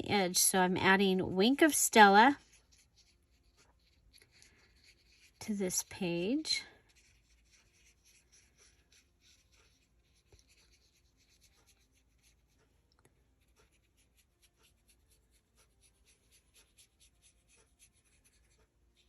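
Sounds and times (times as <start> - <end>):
pen scratching on paper: 2.3 - 12.7, 13.4 - 19.0.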